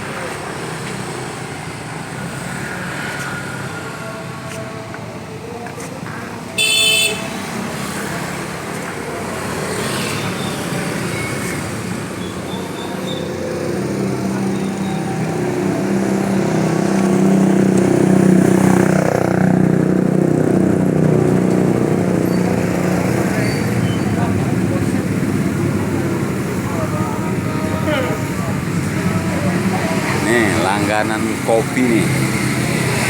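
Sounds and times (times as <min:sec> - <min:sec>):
road traffic hum: 0:00.0 - 0:33.0.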